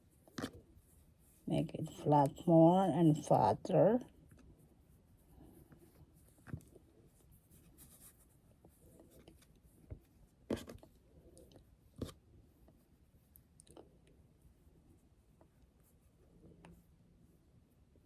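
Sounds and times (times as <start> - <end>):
faint rustling of craft materials: 0.0 - 18.0.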